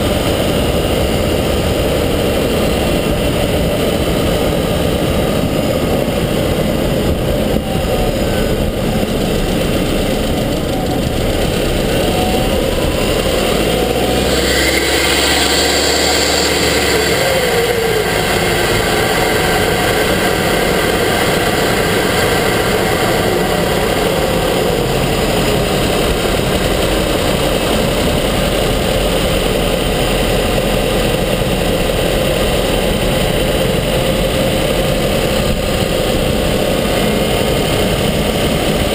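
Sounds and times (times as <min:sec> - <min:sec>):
car engine running up close: 0:00.0 - 0:38.9
high engine whine: 0:00.0 - 0:38.9.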